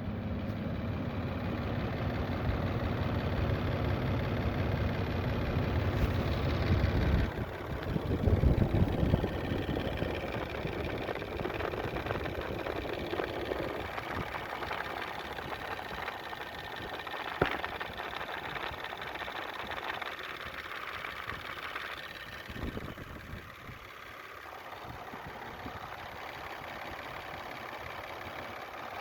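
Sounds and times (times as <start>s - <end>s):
car engine idling with ticking: 0.0s - 29.0s.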